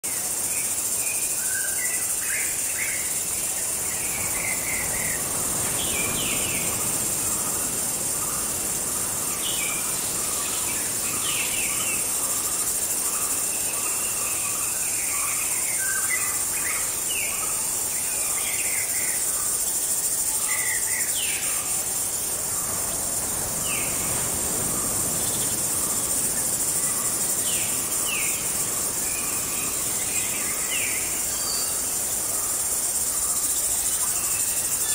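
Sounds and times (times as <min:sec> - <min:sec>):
high insect chorus: 0:00.0 - 0:34.9.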